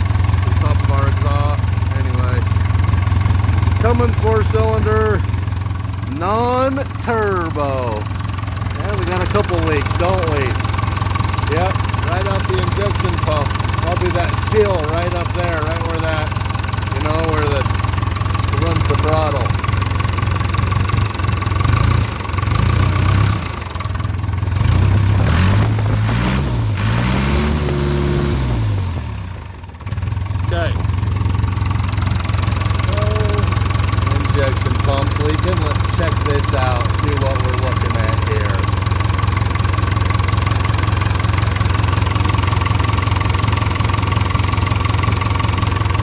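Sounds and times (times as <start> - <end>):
diesel engine idling and revving: 0.0 - 46.0.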